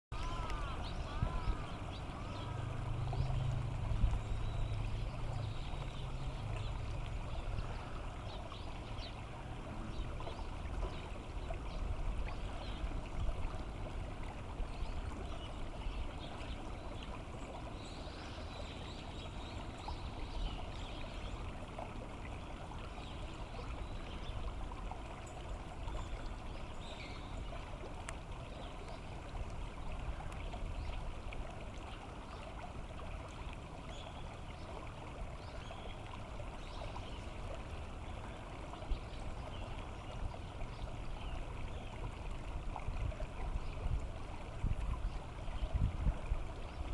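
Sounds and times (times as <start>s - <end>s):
stream water running: 0.1s - 46.9s.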